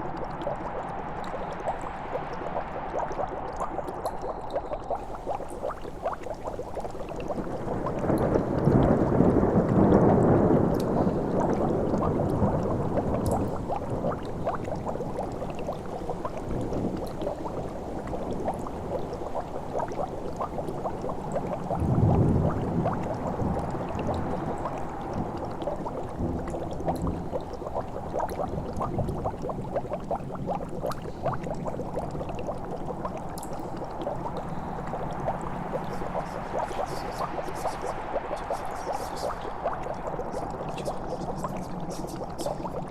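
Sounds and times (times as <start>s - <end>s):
liquid bubbling and gurgling: 0.0s - 42.9s.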